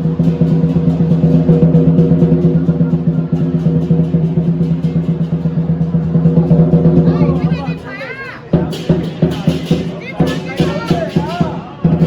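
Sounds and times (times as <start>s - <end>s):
fast drumbeat: 0.0s - 12.0s.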